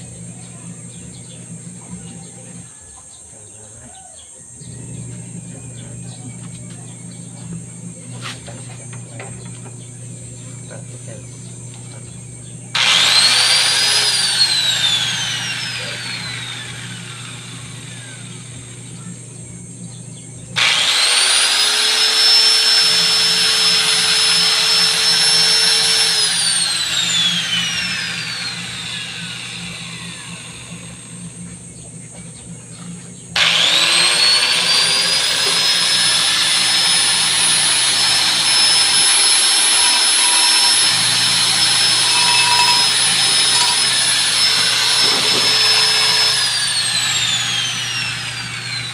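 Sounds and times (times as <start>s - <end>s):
electric grinder whining: 4.6s - 48.9s.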